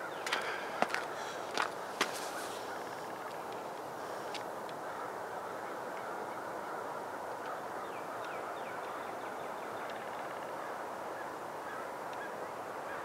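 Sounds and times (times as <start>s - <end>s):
faint waterfowl calls: 0.0s - 13.0s.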